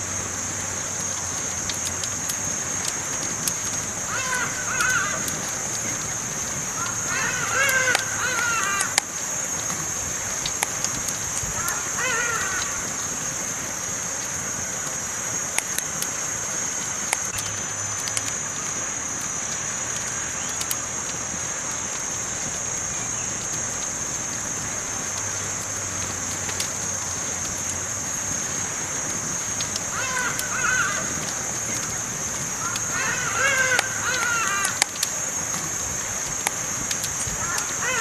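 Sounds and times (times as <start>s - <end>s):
campfire hissing and crackling: 0.0s - 38.0s.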